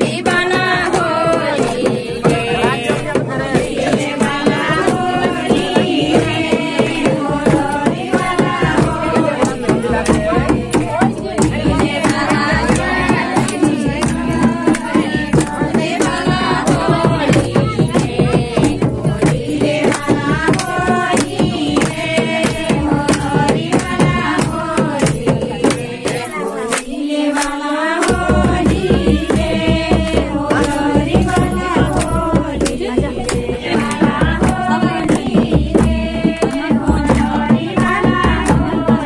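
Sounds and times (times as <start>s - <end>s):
drum beat: 0.0s - 39.0s
group of voices singing folk song: 0.0s - 39.0s.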